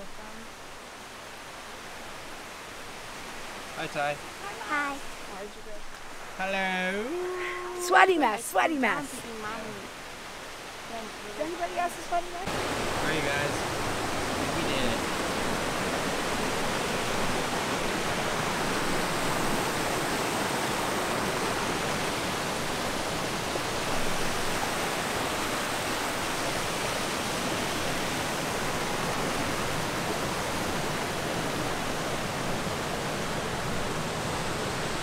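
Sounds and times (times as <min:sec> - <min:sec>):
waterfall roaring: 0:00.0 - 0:35.0.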